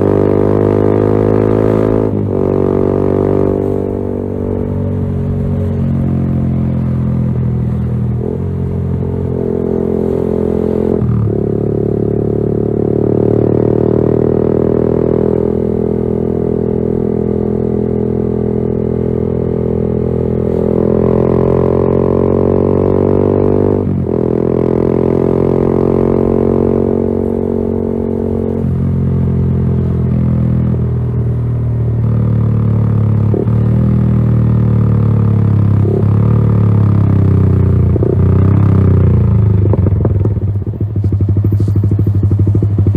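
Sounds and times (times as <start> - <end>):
motorcycle engine under load: 0.0 - 42.9.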